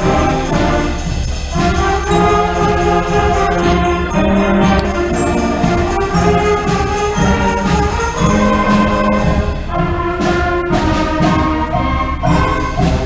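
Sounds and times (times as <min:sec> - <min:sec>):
school band playing: 0:00.0 - 0:13.0.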